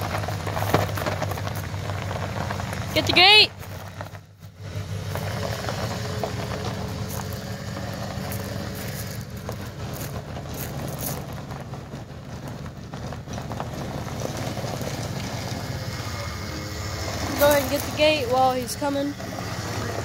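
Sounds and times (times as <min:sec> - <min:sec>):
gravel crackling under tires: 0:00.0 - 0:20.0
truck engine running at low revs: 0:00.0 - 0:20.0.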